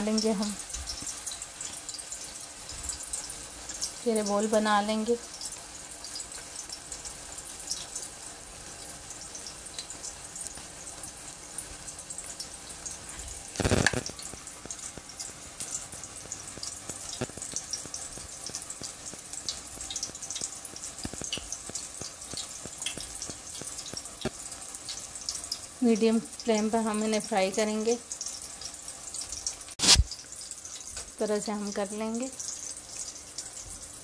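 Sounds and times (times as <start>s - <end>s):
oil sizzling in a pan: 0.0s - 34.0s.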